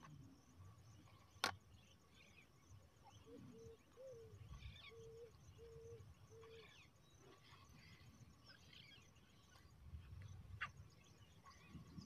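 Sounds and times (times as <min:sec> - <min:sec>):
low hooting bird calls: 0:01.8 - 0:12.0.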